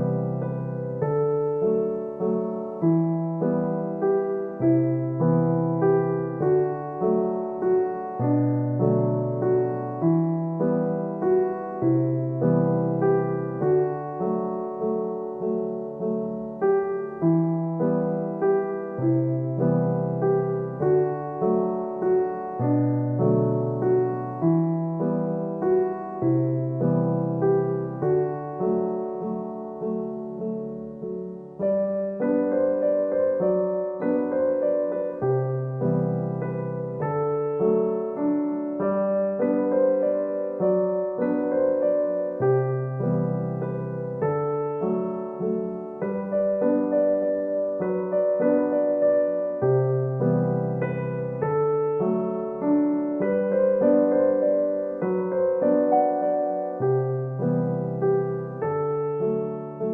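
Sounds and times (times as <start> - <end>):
gentle solo piano piece: 0.0 - 59.9.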